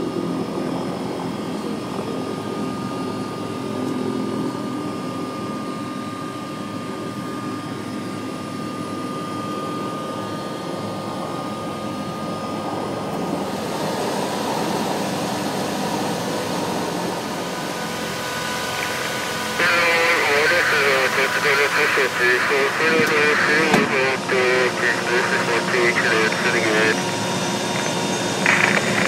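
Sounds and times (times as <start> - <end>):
floatplane engine and propeller: 0.0 - 29.0.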